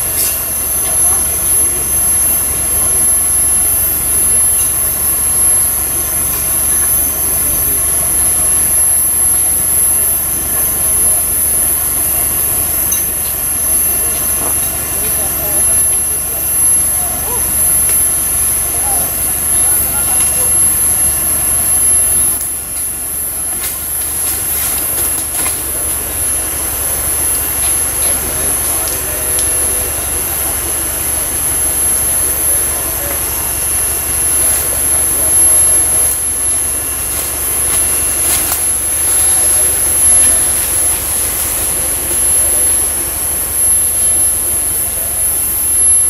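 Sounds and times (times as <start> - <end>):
cicadas droning: 0.0 - 46.0
high-pitched whine: 0.0 - 46.0
off-road vehicle engine running: 0.0 - 46.0.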